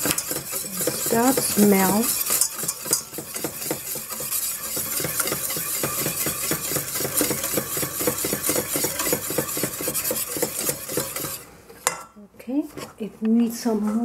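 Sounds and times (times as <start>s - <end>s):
whisk clattering in a saucepan: 0.0s - 11.5s.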